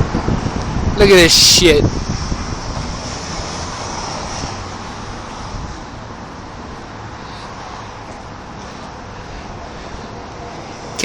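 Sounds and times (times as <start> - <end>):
vehicle noise: 0.0 - 11.0
wind buffeting microphone: 0.0 - 11.0.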